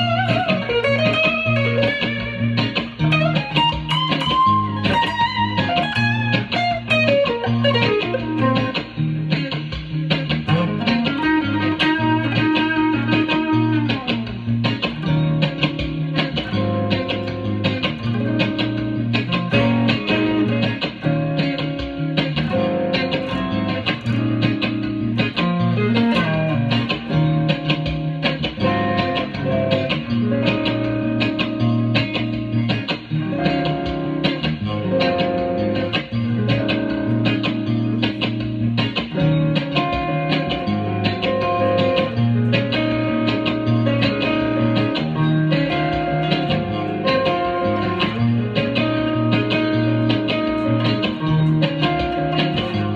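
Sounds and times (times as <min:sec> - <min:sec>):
bass line: 0:00.0 - 0:52.9
guitar playing: 0:00.0 - 0:52.9.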